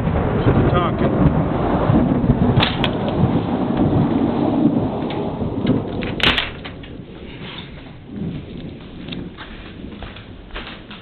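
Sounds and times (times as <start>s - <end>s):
rain: 0.0s - 11.0s
sharp thunder crack: 0.0s - 11.0s
thunder rumbling: 0.0s - 11.0s.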